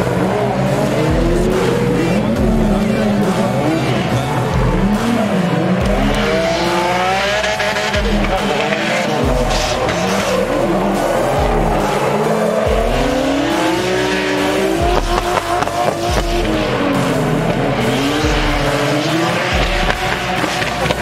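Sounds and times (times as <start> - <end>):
car engines revving: 0.0 - 21.0
music with bass beat: 0.0 - 21.0
tyres squealing: 0.0 - 21.0.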